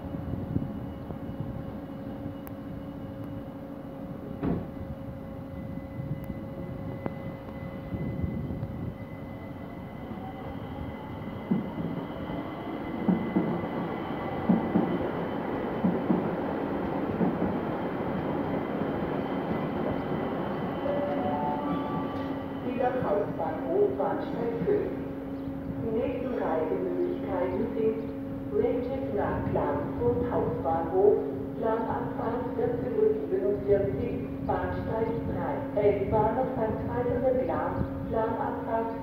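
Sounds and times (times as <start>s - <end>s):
electric train whine: 0.0s - 39.0s.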